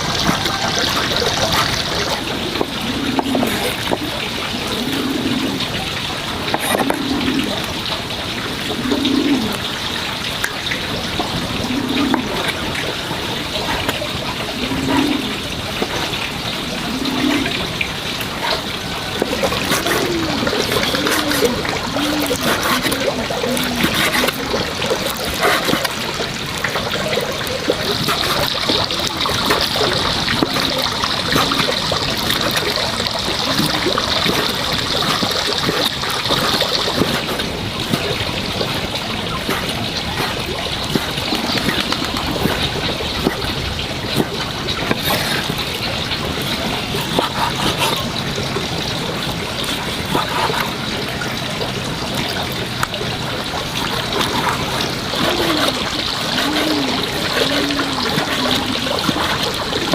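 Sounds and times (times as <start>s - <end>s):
water running and trickling: 0.0s - 59.9s
water splashing: 0.0s - 59.9s.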